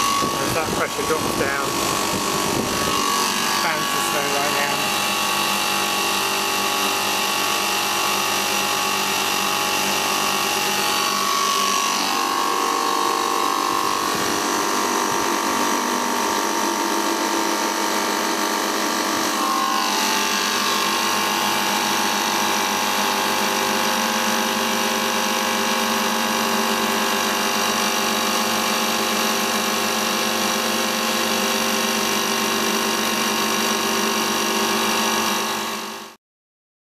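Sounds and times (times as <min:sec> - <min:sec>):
condenser fan humming: 0:00.0 - 0:35.7.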